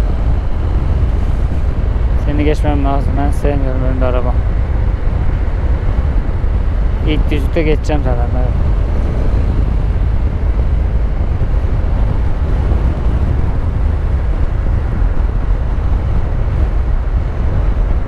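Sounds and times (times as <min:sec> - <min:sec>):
motorcycle road rumble: 0:00.0 - 0:18.0
wind noise: 0:00.0 - 0:18.0.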